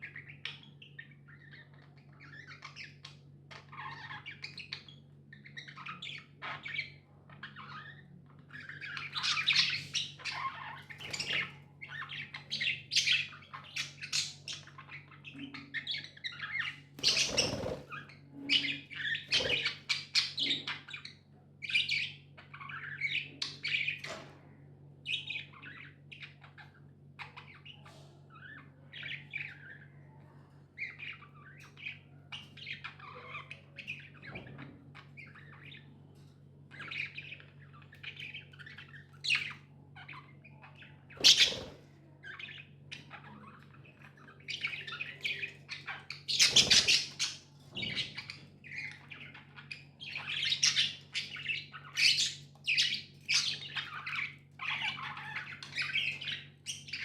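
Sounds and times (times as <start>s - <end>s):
budgerigars chattering and chirping: 0.0s - 24.2s, 25.0s - 57.0s.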